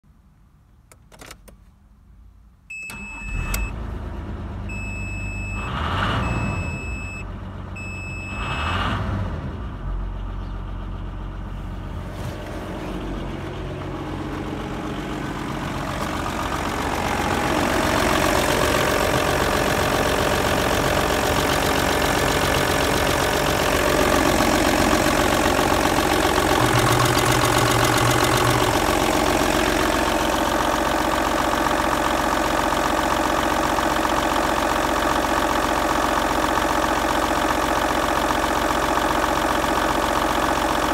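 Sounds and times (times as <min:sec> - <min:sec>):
diesel engine idling: 0:02.8 - 0:40.9.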